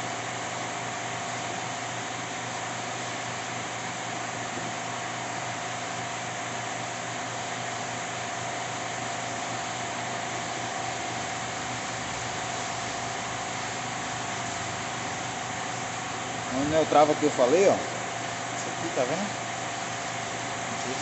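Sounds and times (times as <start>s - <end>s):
motor humming with high whine: 0.0s - 21.0s.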